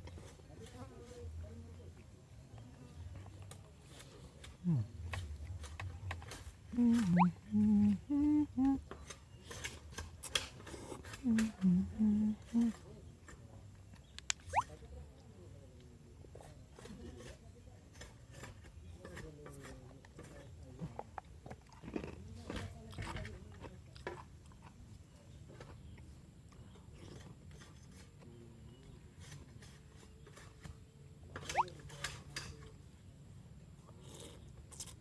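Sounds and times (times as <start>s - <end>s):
people chewing and crunching: 0.0s - 14.5s, 15.2s - 33.0s, 33.6s - 35.0s.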